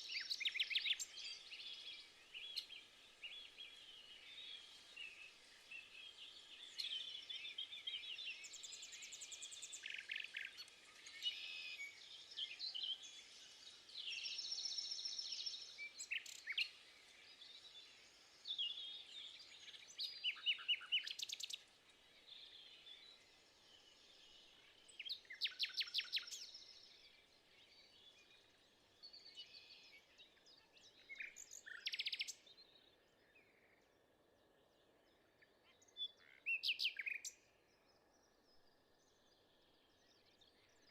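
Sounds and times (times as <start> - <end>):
songbirds singing and trilling: 0.0 - 40.9.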